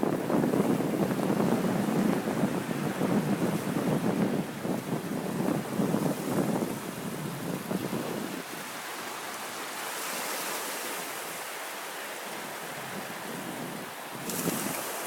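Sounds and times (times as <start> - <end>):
wind buffeting microphone: 0.0 - 10.5, 12.3 - 15.0
ocean surf on a beach: 0.0 - 15.0.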